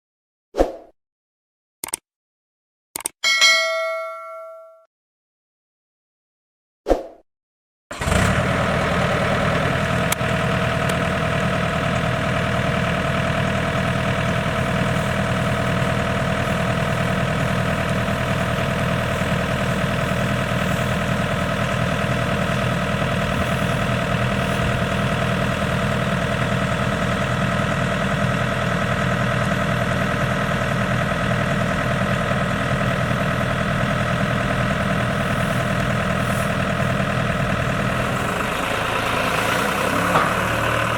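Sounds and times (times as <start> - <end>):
heavy diesel engine running: 7.9 - 40.9.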